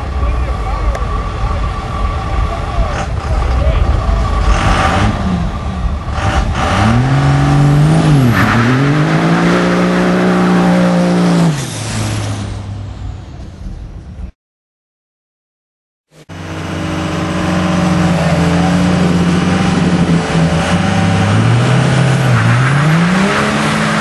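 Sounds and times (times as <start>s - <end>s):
diesel engine revving: 0.0s - 14.0s, 16.2s - 24.0s.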